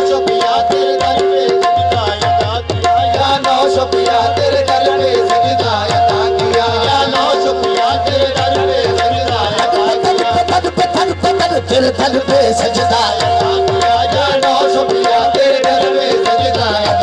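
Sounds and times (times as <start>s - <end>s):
hand drum rhythm: 0.0s - 17.0s
harmonium melody: 0.0s - 17.0s.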